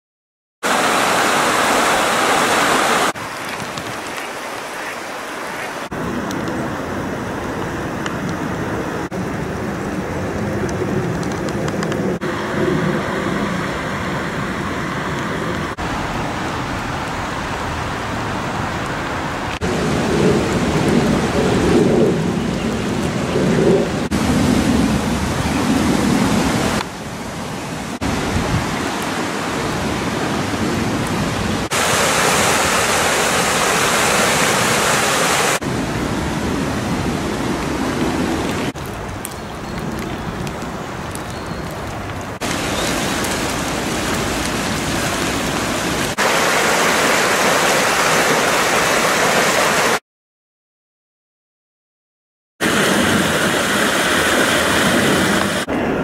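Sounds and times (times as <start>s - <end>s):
rushing stream water roar: 0.6s - 11.5s, 12.1s - 39.1s, 42.3s - 50.0s, 52.6s - 56.0s.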